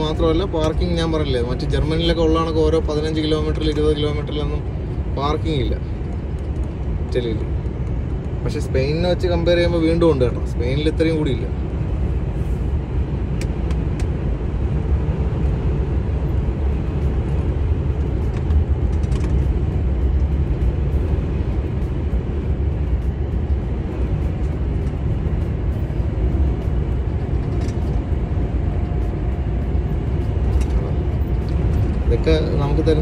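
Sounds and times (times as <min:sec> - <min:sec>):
diesel engine rumble: 0:00.0 - 0:33.0
road noise: 0:00.0 - 0:33.0.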